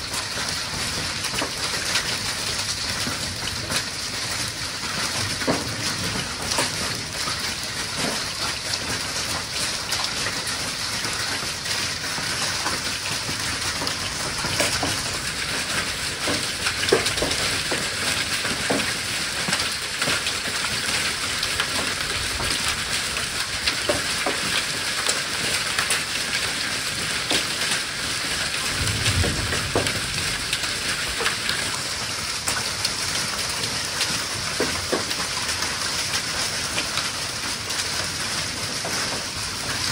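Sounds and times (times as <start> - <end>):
hail and rain pelting a roof: 0.0 - 39.9.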